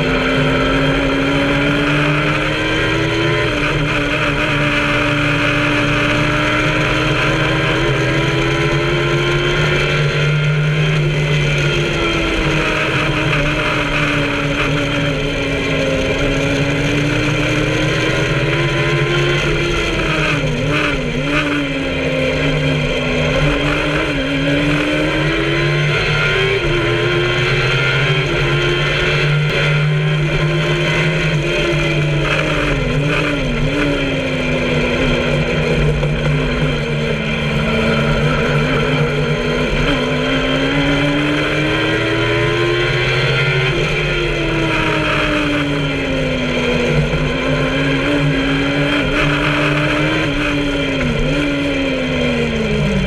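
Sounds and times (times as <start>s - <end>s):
motorcycle engine running hard: 0.0s - 53.0s.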